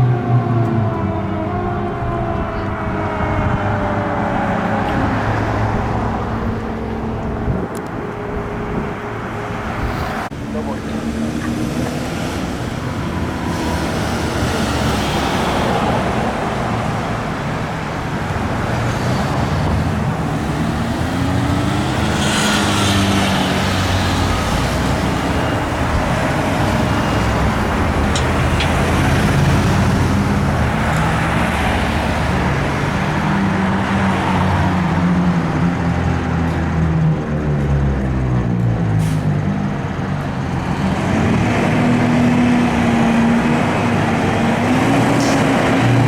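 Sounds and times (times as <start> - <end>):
heavy vehicles passing: 0.0 - 46.0.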